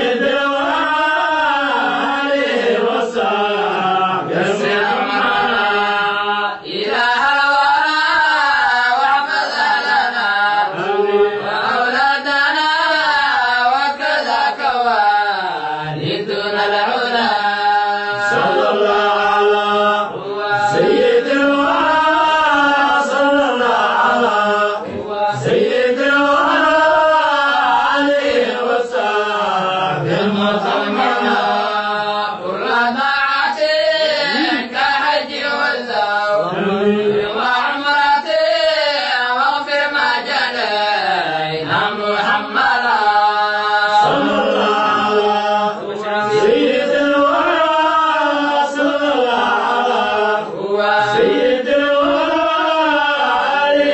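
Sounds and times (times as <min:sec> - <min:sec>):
men chanting: 0:00.0 - 0:53.9.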